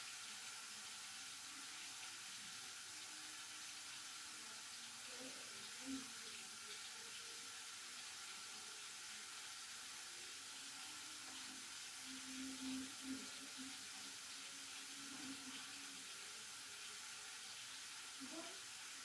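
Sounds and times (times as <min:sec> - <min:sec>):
pot simmering hiss: 0:00.0 - 0:19.0.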